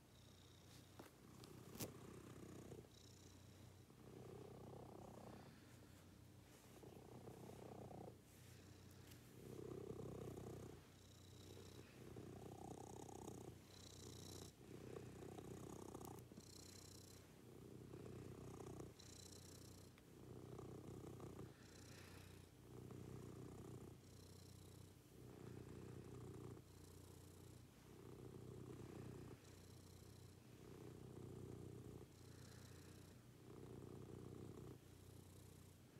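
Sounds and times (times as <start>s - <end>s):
cat purring: 0.0s - 35.9s.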